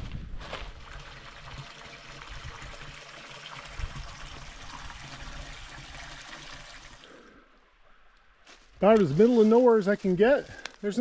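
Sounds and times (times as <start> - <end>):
stream water running: 0.5 - 11.0.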